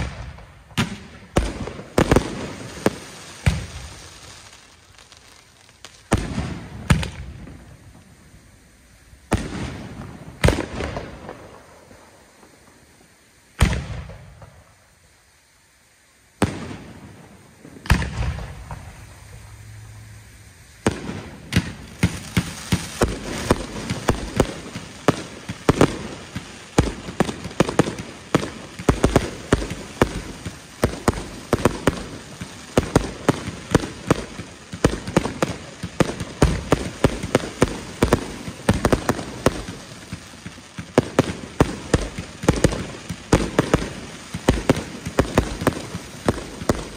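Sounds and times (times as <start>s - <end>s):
firework bangs: 0.0s - 14.9s, 16.3s - 46.9s
firework crackling pops: 0.0s - 46.9s.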